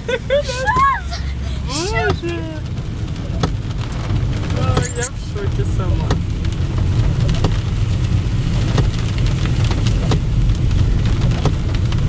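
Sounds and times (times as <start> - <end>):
engine and tyres rumbling through water: 0.0 - 12.0
rain hitting windscreen and roof: 0.0 - 12.0.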